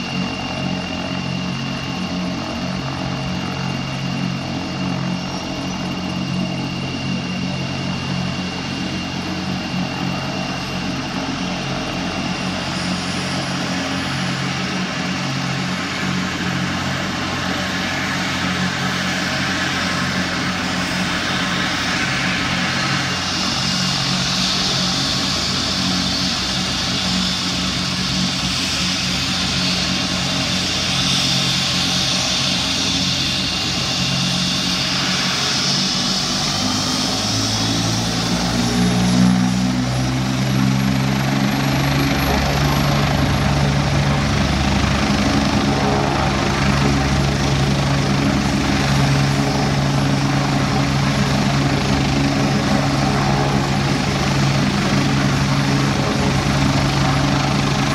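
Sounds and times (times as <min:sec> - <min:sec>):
helicopter rotor beat: 0:00.0 - 0:57.9
helicopter turbine whine: 0:00.0 - 0:57.9.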